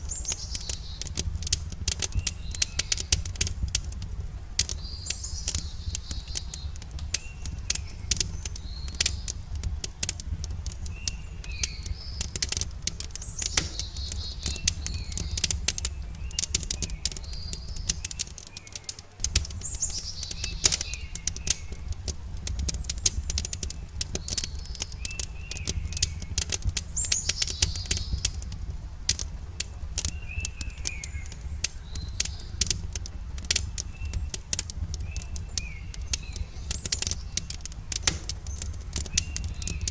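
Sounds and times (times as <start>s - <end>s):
songbirds chirping: 0.0s - 39.9s
wood fire crackling and popping: 0.0s - 39.9s.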